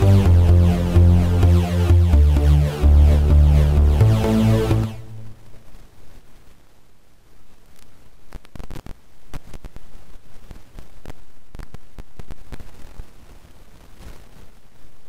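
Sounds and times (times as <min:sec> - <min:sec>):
low hiss and hum: 0:00.0 - 0:15.0.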